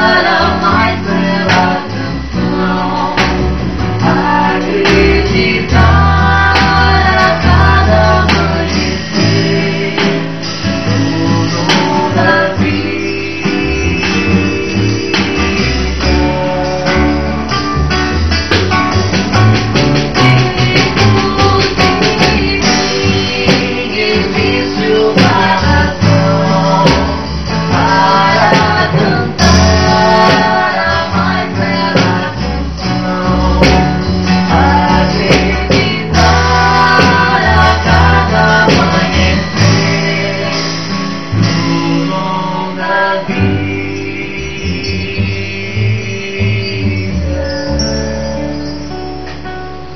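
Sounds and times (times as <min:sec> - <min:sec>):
bass line: 0:00.0 - 0:49.9
guitar: 0:00.0 - 0:49.9.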